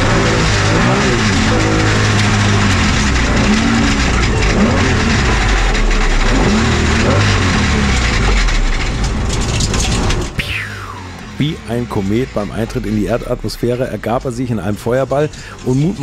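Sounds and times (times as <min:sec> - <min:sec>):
race car engine at speed: 0:00.0 - 0:16.0
road and wind noise: 0:00.0 - 0:16.0.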